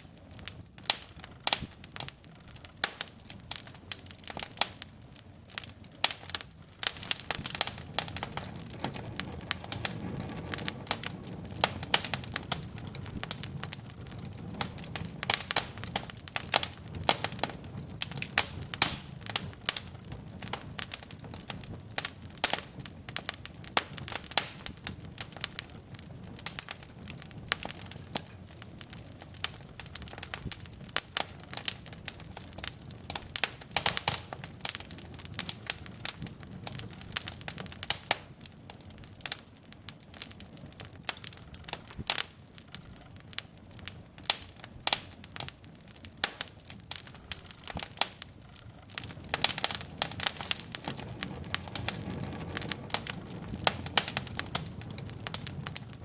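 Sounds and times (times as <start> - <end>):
logs crackling and popping: 0.0 - 56.0
low rush of flame: 0.0 - 56.0.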